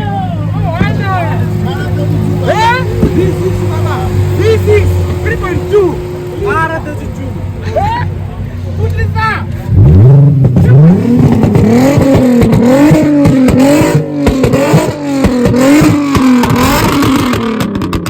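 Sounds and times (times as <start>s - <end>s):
car engine revving: 0.0s - 18.0s
sharp exhaust pops: 0.7s - 7.2s, 8.8s - 18.0s.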